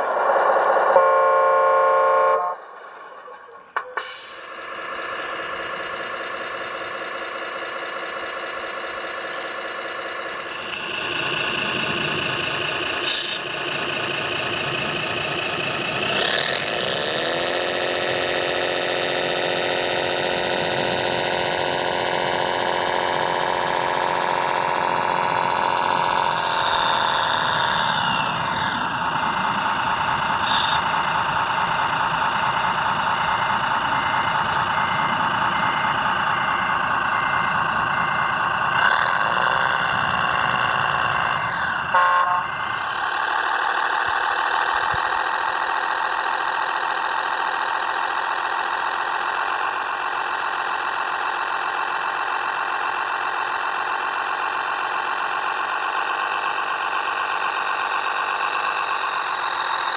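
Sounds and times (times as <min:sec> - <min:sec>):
model crane motor humming: 0:04.4 - 0:59.9.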